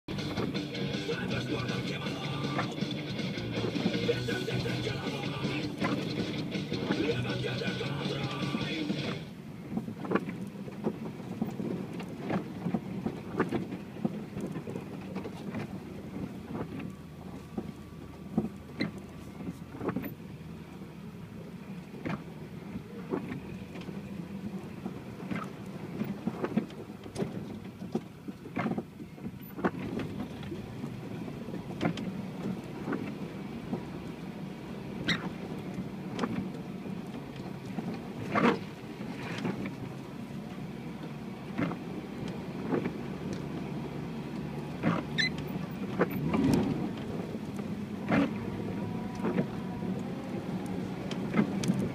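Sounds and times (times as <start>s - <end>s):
off-road vehicle engine hum: 0.0s - 51.9s.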